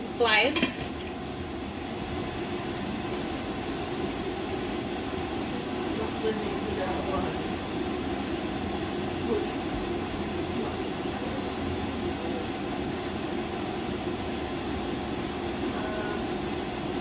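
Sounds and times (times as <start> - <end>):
meat frying in a pan: 0.0 - 17.0.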